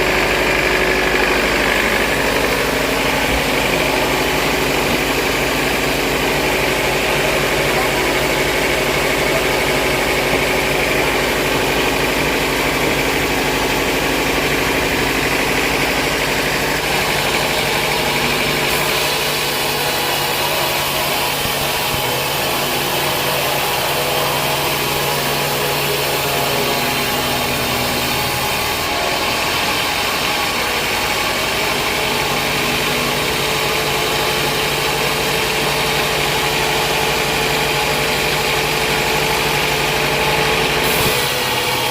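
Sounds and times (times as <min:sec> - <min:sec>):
band saw mill machine drone: 0:00.0 - 0:41.9.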